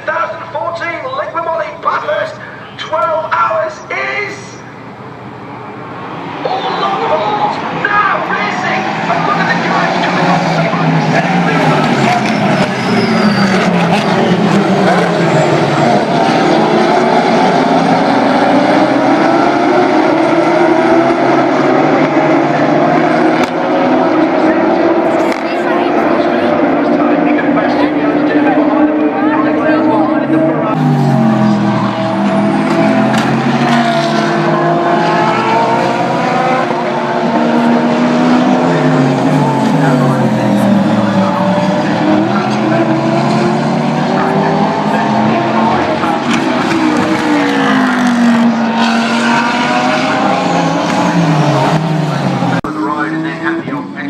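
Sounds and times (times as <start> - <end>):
race cars accelerating: 0.0 - 54.0.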